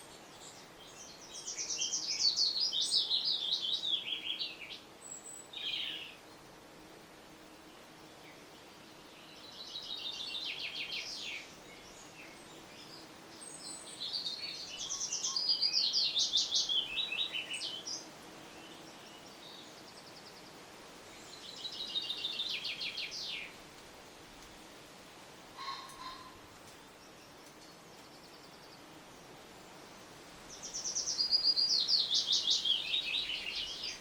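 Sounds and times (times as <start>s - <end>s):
faint background hiss: 0.0s - 34.0s.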